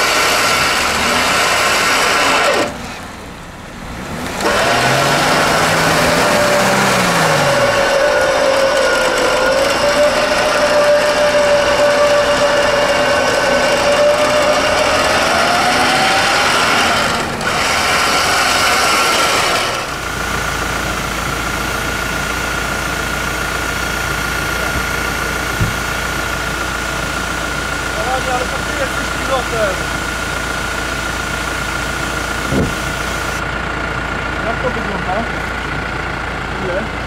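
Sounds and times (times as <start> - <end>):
off-road vehicle engine whining: 0.0 - 37.0.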